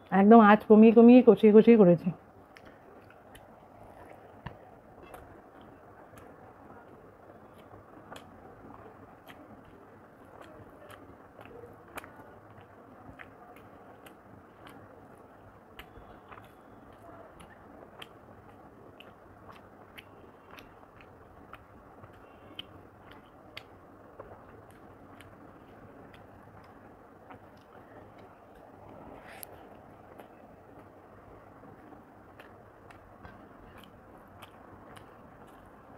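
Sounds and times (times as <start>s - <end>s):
person chewing food: 2.5s - 35.9s.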